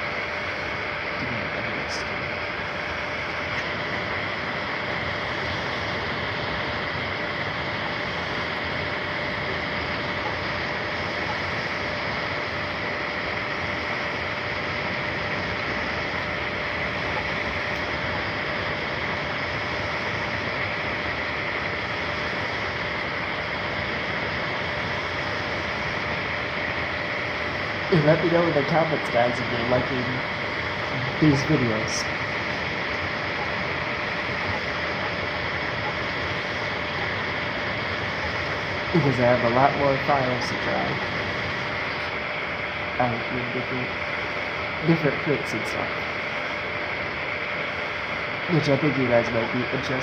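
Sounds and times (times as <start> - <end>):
faint constant hum: 0.0 - 50.0
three-d printer whirring: 0.0 - 50.0.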